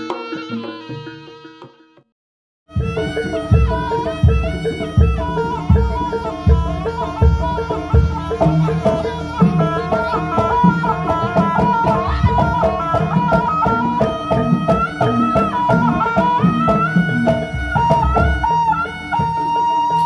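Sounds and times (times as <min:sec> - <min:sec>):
drum strokes: 0:02.7 - 0:20.0
gamelan lead melody: 0:02.7 - 0:20.0.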